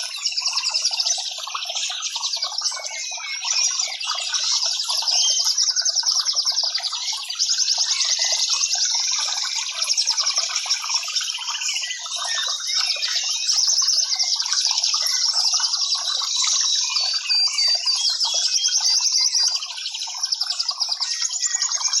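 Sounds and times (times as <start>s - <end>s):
birds chirping and trilling: 0.0s - 22.0s.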